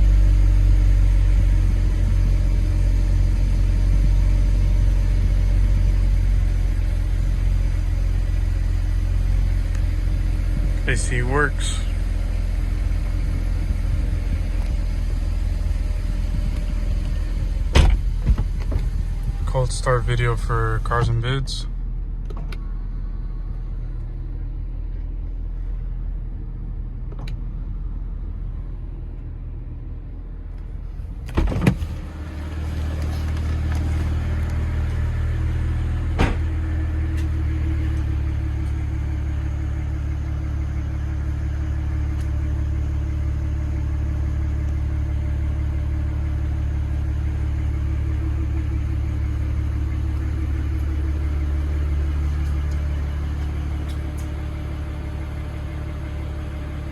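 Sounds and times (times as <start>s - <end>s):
car engine starting and idling: 0.0s - 56.9s
low hum: 0.0s - 56.9s.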